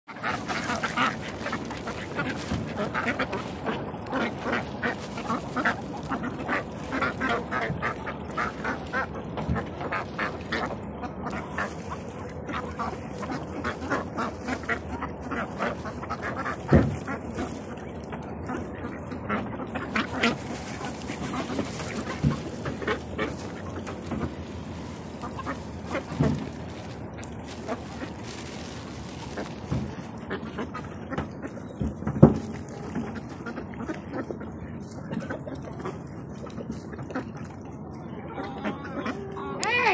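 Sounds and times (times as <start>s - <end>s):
ducks quacking: 0.1s - 39.9s.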